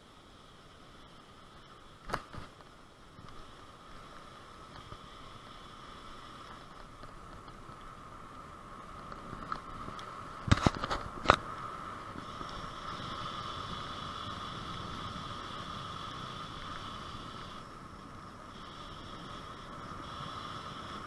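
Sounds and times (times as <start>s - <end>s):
bicycle tyre and wind hum: 0.0s - 21.0s.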